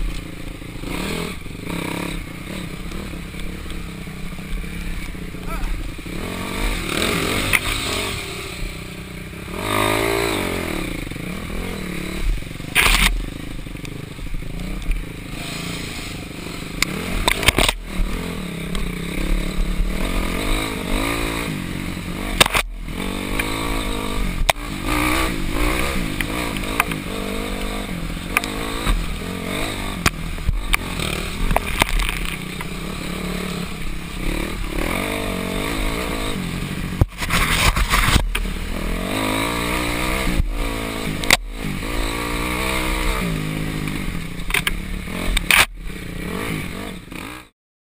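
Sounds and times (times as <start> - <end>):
dirt bike engine revving: 0.0 - 47.5.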